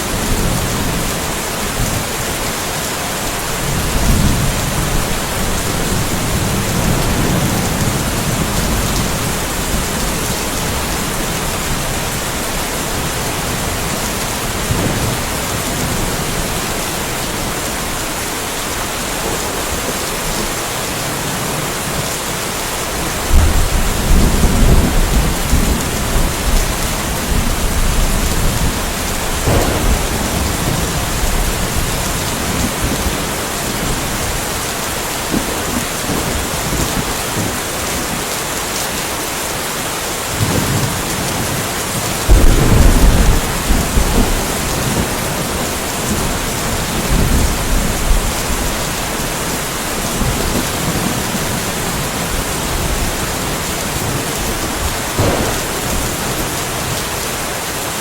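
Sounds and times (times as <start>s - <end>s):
thunder rumbling: 0.0s - 20.6s, 22.9s - 37.9s, 40.3s - 57.9s
rain falling: 0.0s - 58.0s.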